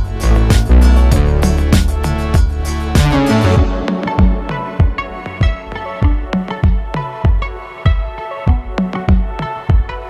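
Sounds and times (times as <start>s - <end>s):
electronic music with deep drums: 0.0s - 10.0s.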